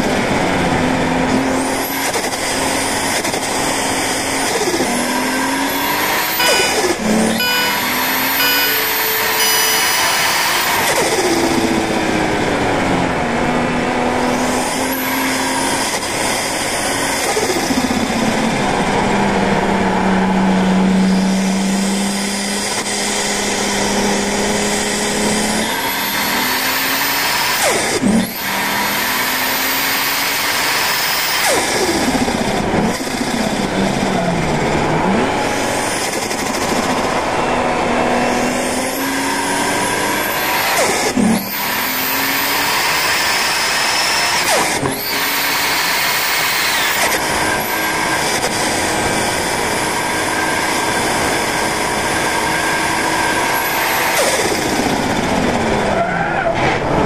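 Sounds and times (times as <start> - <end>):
turbocharged car engine revving: 0.0 - 57.0.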